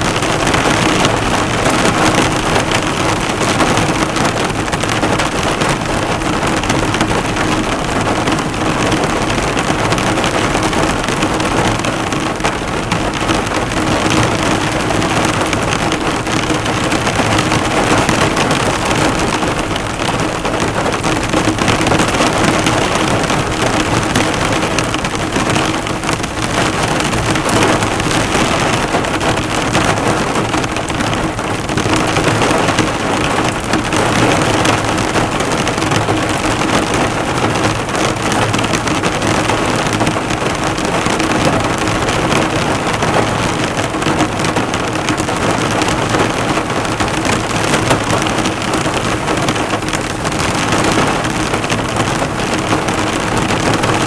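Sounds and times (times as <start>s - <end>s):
heavy rain drumming on a car: 0.0s - 54.0s.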